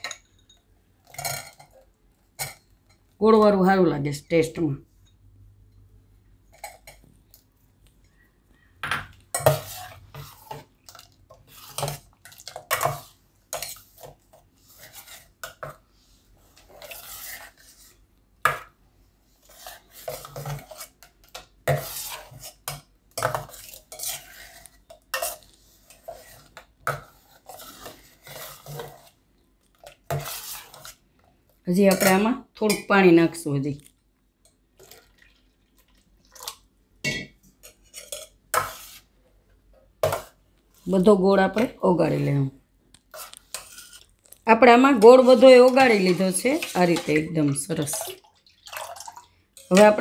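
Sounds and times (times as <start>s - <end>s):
spoon stirring in metal bowl: 0.0s - 3.2s, 4.8s - 8.2s, 8.8s - 50.0s.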